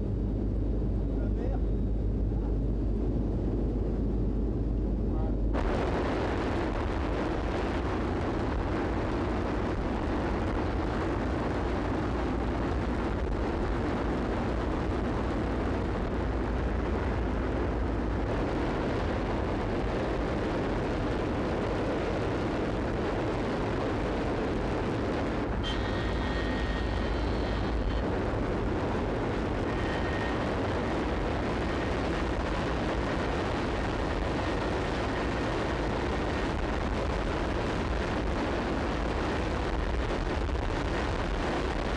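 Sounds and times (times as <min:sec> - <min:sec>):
aircraft engine in cabin: 0:00.0 - 0:41.9.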